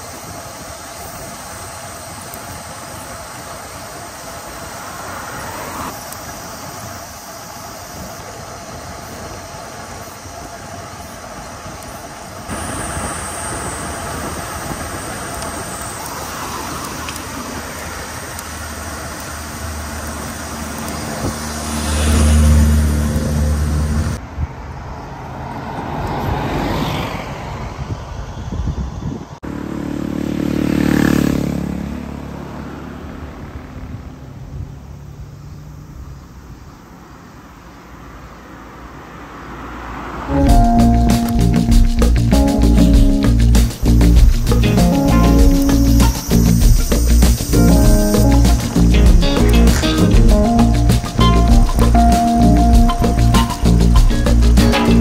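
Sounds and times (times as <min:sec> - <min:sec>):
steady road noise: 0:00.0 - 0:55.0
vehicles passing: 0:00.0 - 0:55.0.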